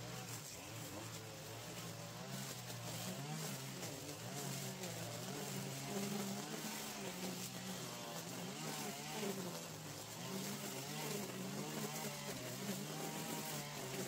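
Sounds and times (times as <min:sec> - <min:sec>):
string trimmers cutting grass: 0:00.0 - 0:14.0.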